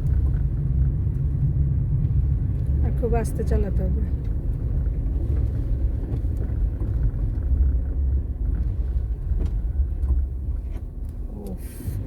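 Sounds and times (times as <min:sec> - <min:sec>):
car driving over snow: 0:00.0 - 0:12.0.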